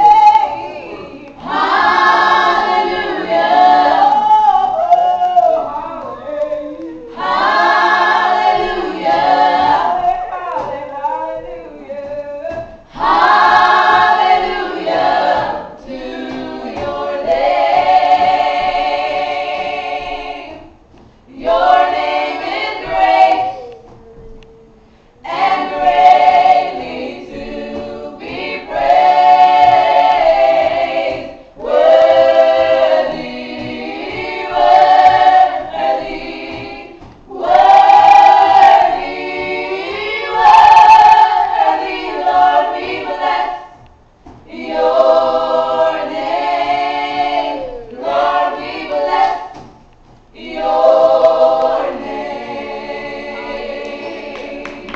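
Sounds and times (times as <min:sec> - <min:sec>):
women singing gospel song: 0:00.0 - 0:54.9.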